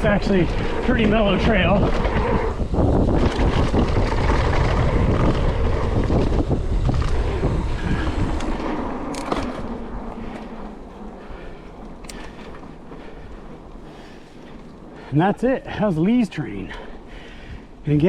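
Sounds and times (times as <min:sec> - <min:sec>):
bike rattling over bumps: 0:00.0 - 0:18.0
bike tyres rolling over dirt: 0:00.0 - 0:18.0
wind buffeting microphone: 0:00.0 - 0:18.0.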